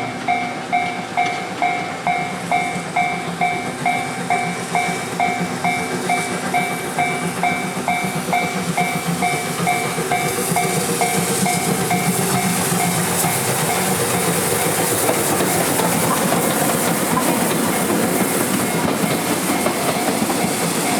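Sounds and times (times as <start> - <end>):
steam locomotive hiss: 0.0 - 20.9
train rumbling: 0.0 - 20.9.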